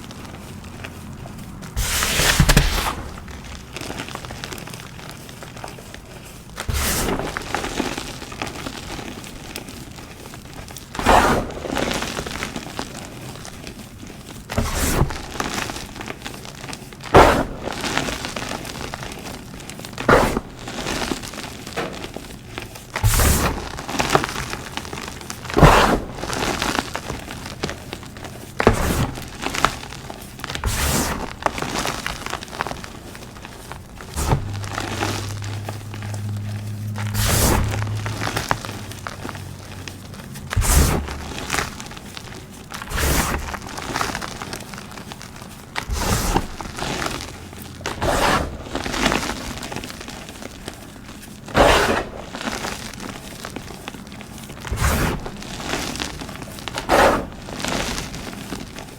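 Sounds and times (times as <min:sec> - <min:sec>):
chalk blocks crunching: 0:00.0 - 0:58.9
chalk crumbling: 0:00.0 - 0:58.9.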